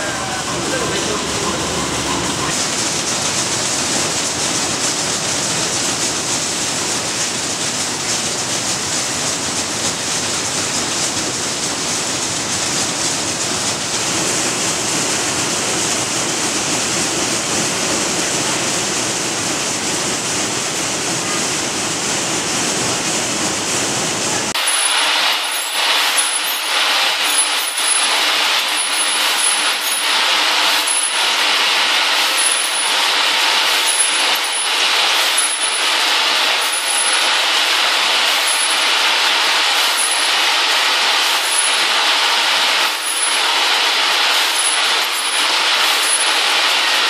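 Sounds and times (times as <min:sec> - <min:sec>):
rushing factory floor noise: 0:00.0 - 0:47.0.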